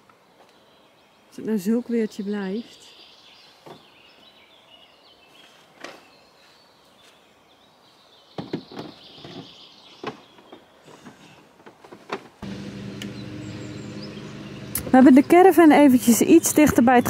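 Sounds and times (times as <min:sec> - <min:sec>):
birds singing: 0:00.0 - 0:11.4, 0:12.5 - 0:17.0.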